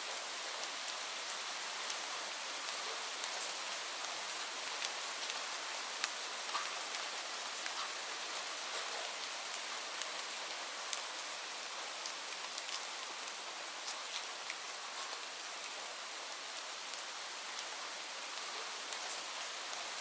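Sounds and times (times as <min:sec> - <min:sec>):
rain falling on leaves: 0:00.0 - 0:20.0
sharp ticks of raindrops: 0:00.1 - 0:15.8, 0:16.4 - 0:20.0.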